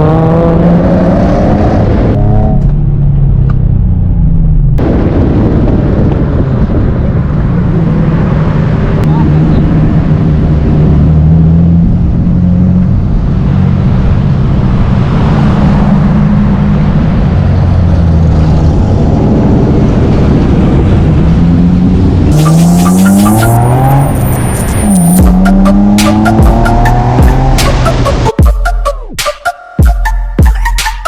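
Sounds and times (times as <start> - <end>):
car engine revving: 0.0 - 28.4.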